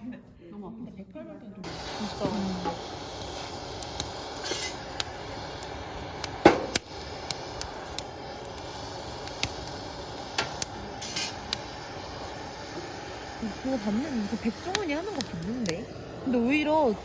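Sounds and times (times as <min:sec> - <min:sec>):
wood fire crackling: 0:01.6 - 0:17.0.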